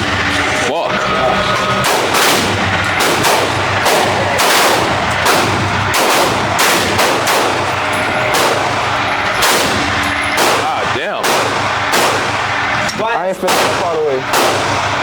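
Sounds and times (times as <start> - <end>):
shotgun gunshots: 1.8 - 15.0.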